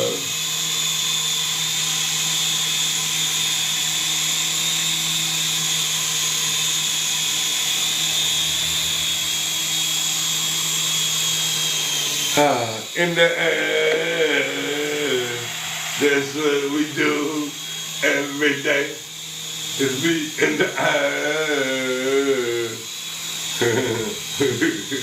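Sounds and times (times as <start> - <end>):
remote-control helicopter whine: 0.0 - 25.0.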